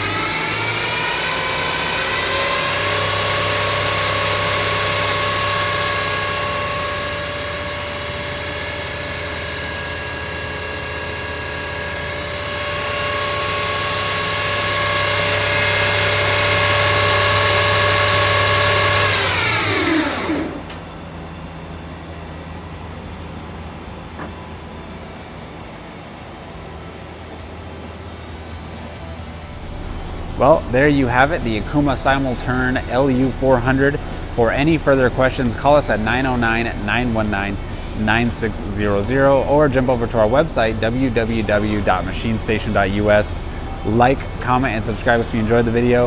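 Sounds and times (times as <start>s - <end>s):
lathe spindle whine: 0.0s - 46.0s.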